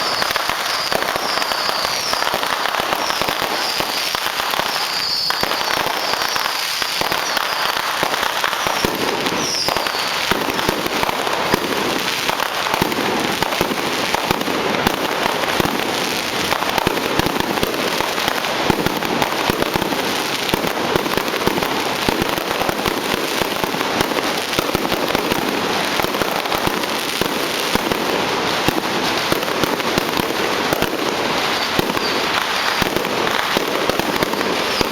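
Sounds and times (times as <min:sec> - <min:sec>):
firecrackers popping: 0:00.0 - 0:34.9.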